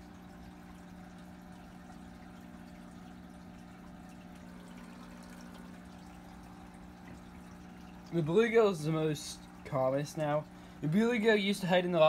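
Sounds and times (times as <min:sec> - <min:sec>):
filter low hum: 0:00.0 - 0:12.0
water trickling into tank: 0:00.0 - 0:12.0.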